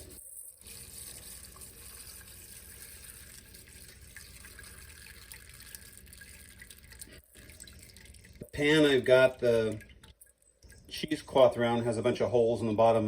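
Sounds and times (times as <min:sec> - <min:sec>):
thin liquid trickling: 0:00.0 - 0:11.8.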